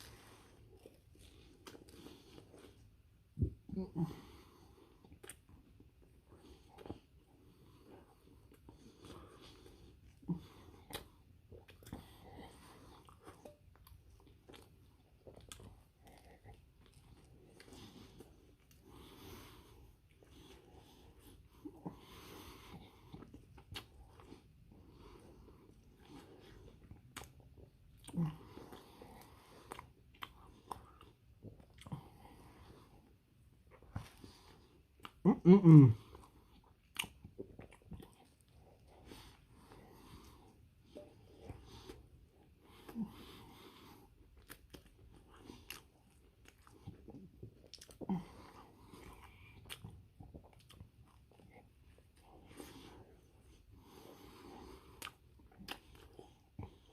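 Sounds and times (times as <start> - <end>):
chewing with mouth smacks: 0.0 - 3.8, 4.7 - 35.3, 36.0 - 56.9.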